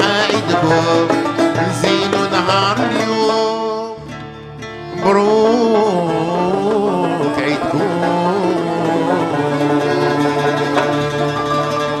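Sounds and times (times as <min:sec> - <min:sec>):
plucked string ensemble music: 0:00.0 - 0:12.0.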